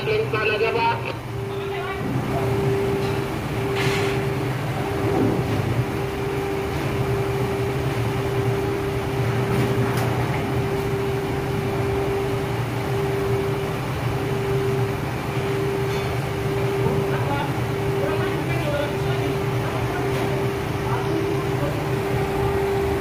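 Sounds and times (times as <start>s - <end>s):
crane engine and hoist whining: 0.0s - 23.0s.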